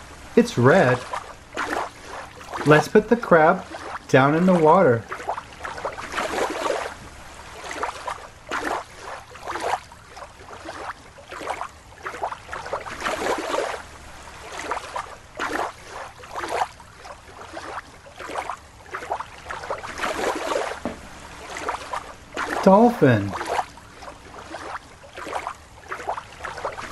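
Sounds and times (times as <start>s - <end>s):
water sloshing and splashing: 0.0s - 26.9s.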